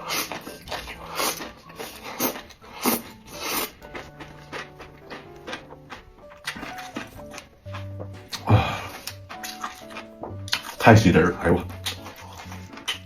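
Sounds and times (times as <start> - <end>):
person slurping and chewing: 0.0 - 13.0.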